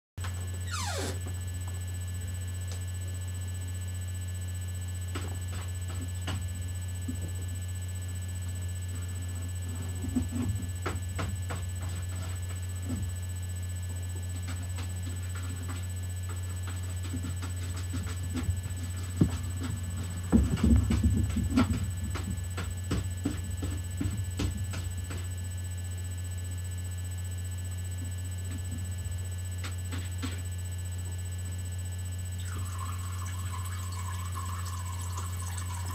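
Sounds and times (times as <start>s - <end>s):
steady low hum: 0.2s - 35.9s.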